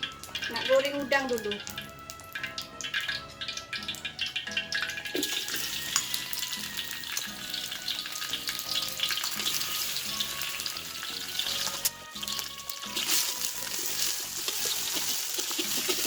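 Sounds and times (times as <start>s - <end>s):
background music: 0.0s - 16.0s
prawns frying in hot oil: 0.0s - 16.0s.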